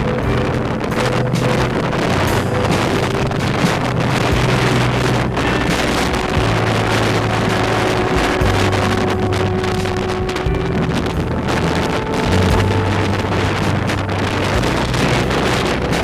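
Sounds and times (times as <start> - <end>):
heavy surf rushing: 0.0 - 16.0
wind buffeting microphone: 0.0 - 16.0.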